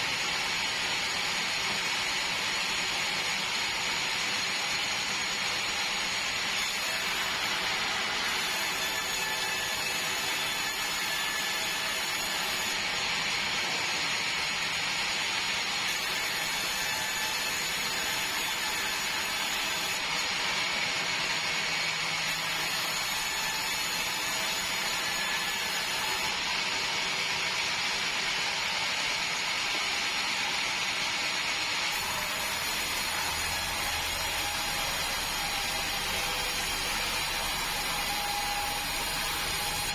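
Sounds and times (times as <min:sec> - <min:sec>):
sawmill cutting timber: 0:00.0 - 0:39.9.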